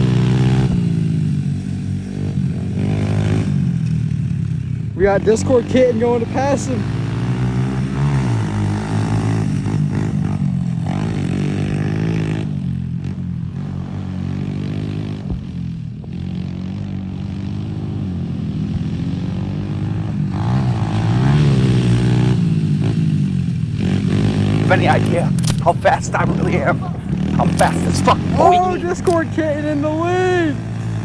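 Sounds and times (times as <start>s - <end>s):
pit bike engines racing: 0.0s - 31.0s.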